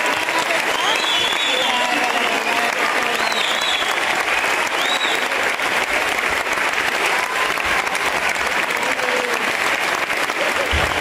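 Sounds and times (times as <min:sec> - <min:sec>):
audience applauding: 0:00.0 - 0:11.0
faint voices: 0:00.0 - 0:11.0.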